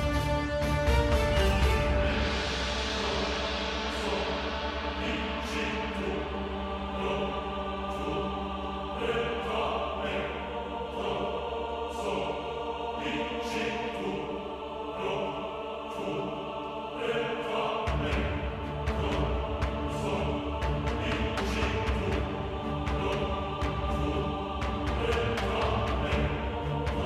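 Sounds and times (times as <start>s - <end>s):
choir-like chords: 0.0s - 27.0s
low drone: 0.0s - 27.0s.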